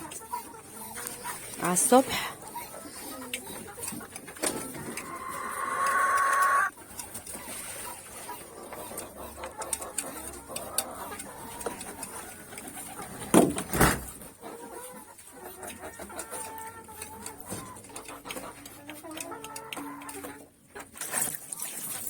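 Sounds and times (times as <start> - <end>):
chickens clucking: 0.0 - 13.4, 14.1 - 21.2.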